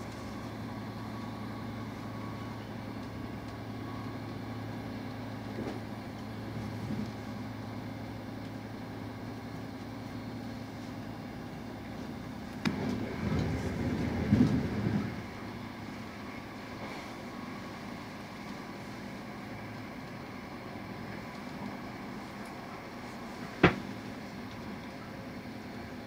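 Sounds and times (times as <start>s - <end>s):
train rumbling from inside coach: 0.0s - 26.0s.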